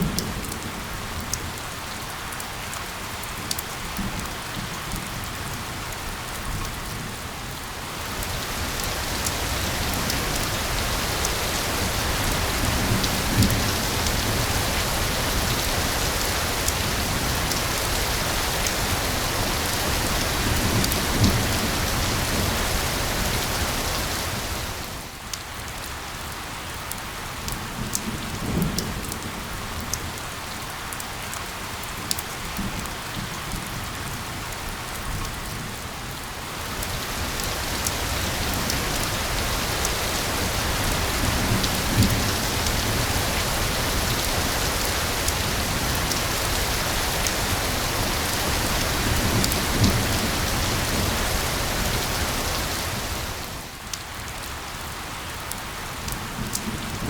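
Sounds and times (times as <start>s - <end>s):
rain hiss: 0.0s - 57.0s.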